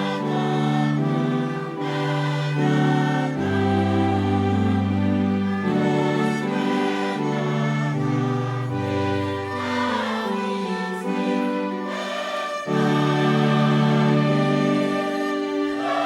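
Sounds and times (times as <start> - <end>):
choir singing a hymn: 0.0 - 16.0
instrumental accompaniment: 0.0 - 16.0.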